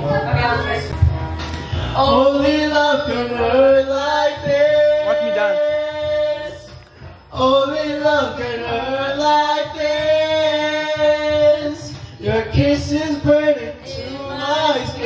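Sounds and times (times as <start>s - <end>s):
karaoke backing music: 0.0s - 15.0s
man and woman singing karaoke: 0.0s - 15.0s.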